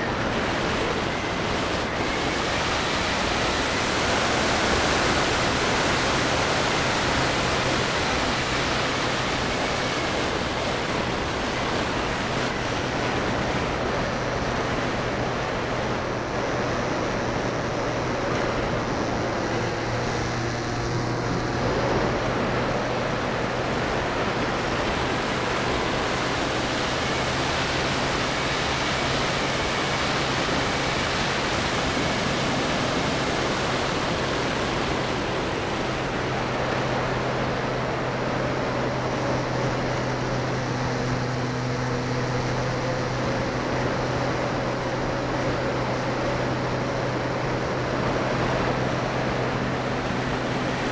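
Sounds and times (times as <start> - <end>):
constant low hum: 0.0 - 50.9.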